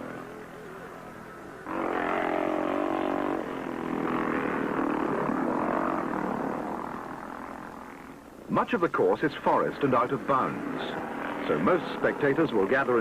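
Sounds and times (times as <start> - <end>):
motorcycle engines running hard: 0.0 - 13.0.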